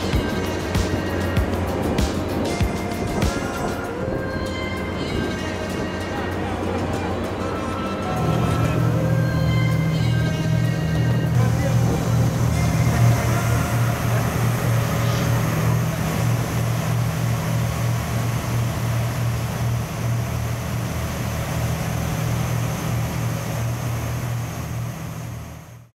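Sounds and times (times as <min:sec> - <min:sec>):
ship engine humming: 0:00.0 - 0:25.9
wind and sea hiss: 0:00.0 - 0:25.9.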